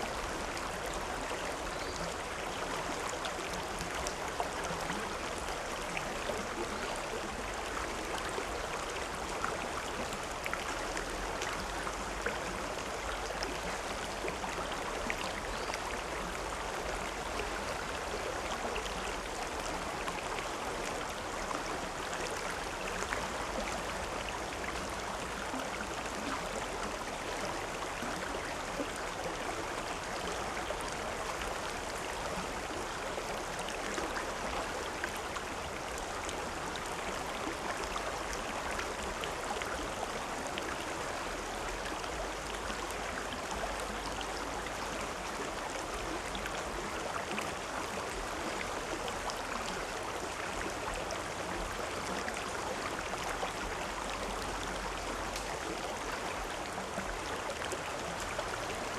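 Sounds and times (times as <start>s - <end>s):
river water flowing over rocks: 0.0s - 58.9s.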